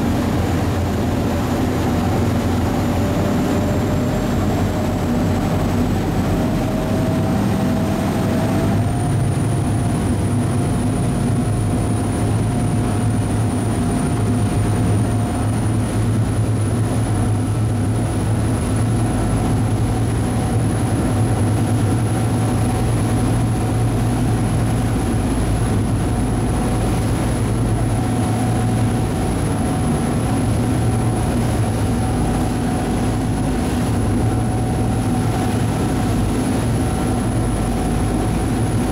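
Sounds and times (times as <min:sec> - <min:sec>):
ferry engines low drone: 0:00.0 - 0:38.9.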